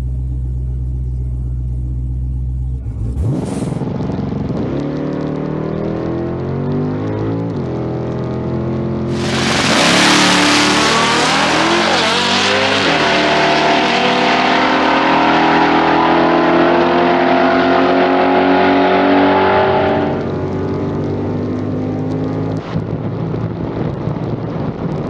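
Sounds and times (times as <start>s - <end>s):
car engine at full throttle: 0.0s - 25.0s.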